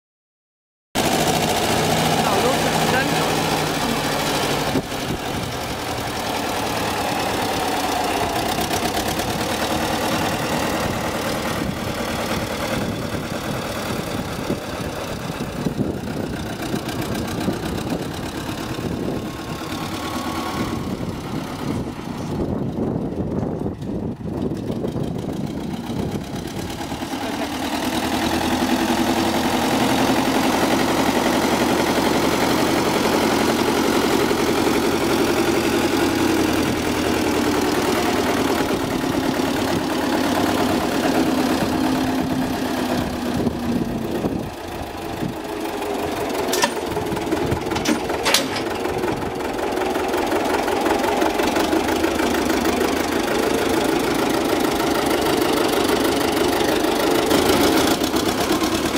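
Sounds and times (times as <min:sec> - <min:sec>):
tractor diesel engine running: 0:01.0 - 0:58.9.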